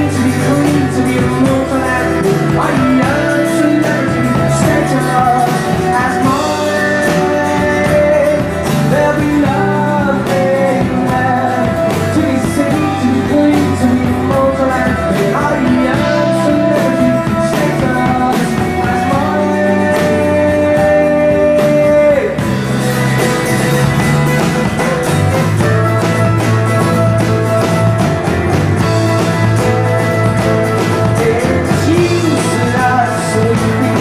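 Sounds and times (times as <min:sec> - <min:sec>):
person singing: 0:00.0 - 0:23.5, 0:28.8 - 0:34.0
live rock band playing: 0:00.0 - 0:34.0.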